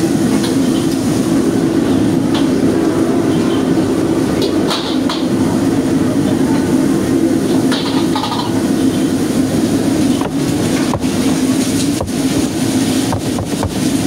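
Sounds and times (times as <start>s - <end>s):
gas burner and extraction rumble: 0.0s - 14.0s.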